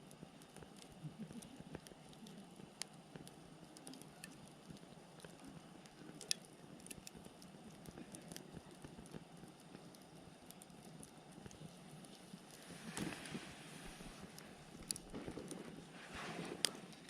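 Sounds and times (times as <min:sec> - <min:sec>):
firewood crackling and popping: 0:00.0 - 0:17.0
soft hiss of flame: 0:00.0 - 0:17.0.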